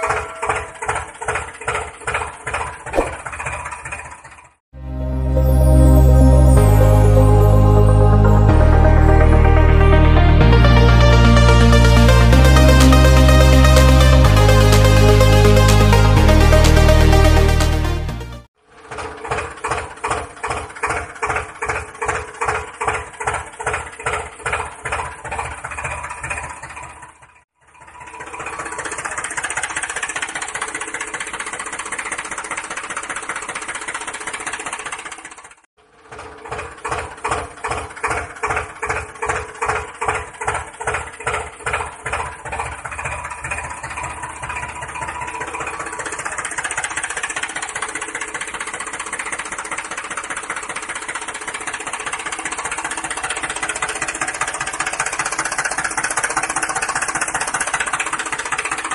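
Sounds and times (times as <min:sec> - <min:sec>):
diesel tractor engine chugging: 0:00.0 - 0:04.6, 0:06.2 - 0:58.9.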